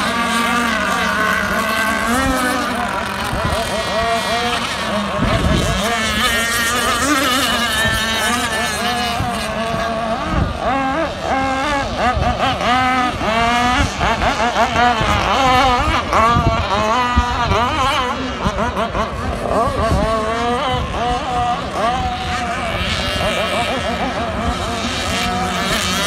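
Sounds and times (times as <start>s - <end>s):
low engine drone: 0.0s - 26.0s
model boat engines whining: 0.0s - 26.0s.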